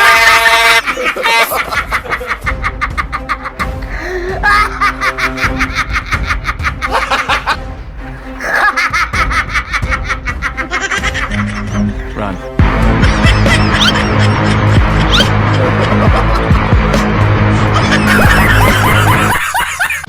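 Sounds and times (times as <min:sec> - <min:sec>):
rapid laughter: 0:00.0 - 0:07.6, 0:08.3 - 0:20.0
background music: 0:00.0 - 0:20.0.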